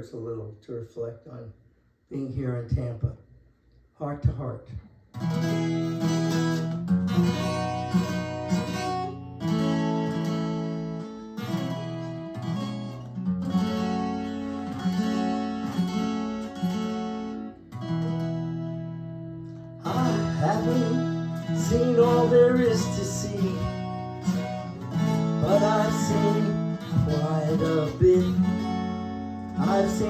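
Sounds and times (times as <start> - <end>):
acoustic guitar strumming chords: 5.1 - 30.0.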